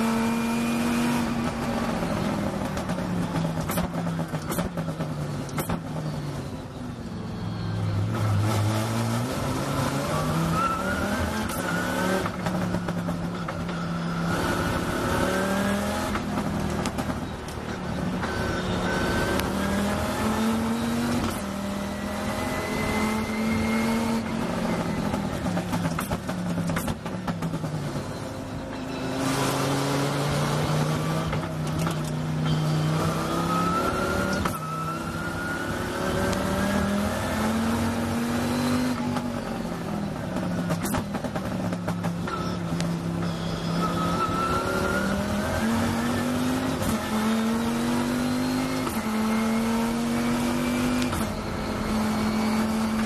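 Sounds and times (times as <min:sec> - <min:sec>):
race car engine at full throttle: 0:00.0 - 0:53.0.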